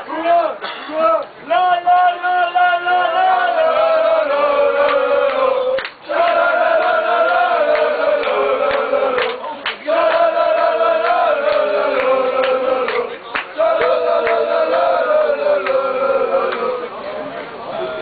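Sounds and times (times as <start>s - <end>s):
football supporters chanting: 1.0s - 17.0s.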